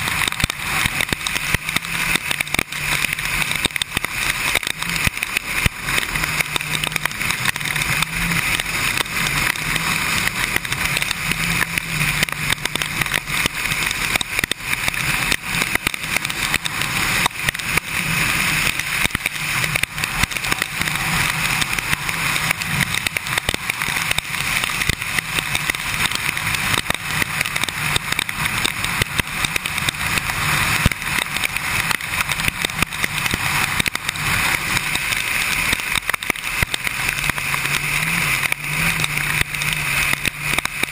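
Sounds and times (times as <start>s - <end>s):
motorcycle engine drone: 0.0s - 40.9s
rain and wind crackles on camera: 0.0s - 40.9s
tyres hissing on wet road: 0.0s - 40.9s.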